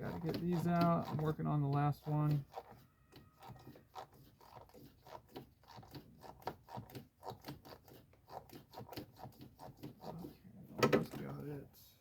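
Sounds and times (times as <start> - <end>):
hand tool clicking and scraping: 0.0 - 11.5.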